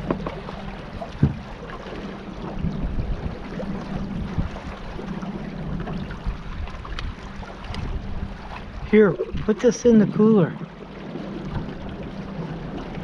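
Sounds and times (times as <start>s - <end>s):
boat engine hum: 0.0s - 13.0s
water noise: 0.0s - 13.0s
wind: 0.0s - 13.0s.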